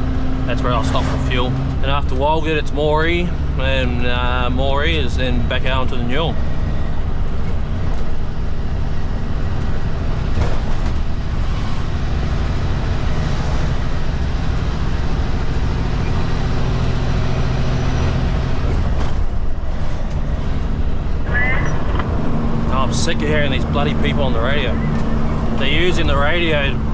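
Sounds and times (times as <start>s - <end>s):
road noise: 0.0s - 26.9s
truck diesel engine running: 0.0s - 26.9s.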